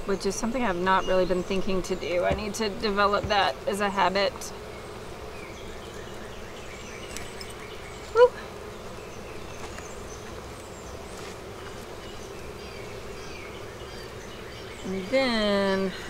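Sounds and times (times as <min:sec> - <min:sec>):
honeybees buzzing: 0:00.0 - 0:16.0
hive tool scraping wood: 0:01.3 - 0:14.4.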